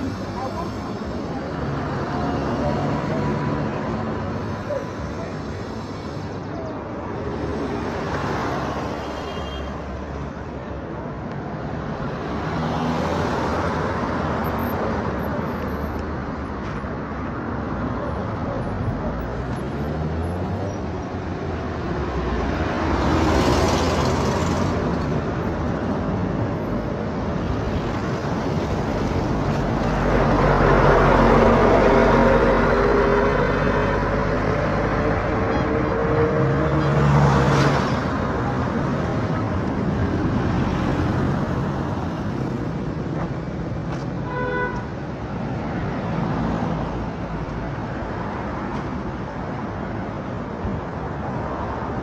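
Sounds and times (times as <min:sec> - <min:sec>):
vehicles passing: 0:00.0 - 0:52.0.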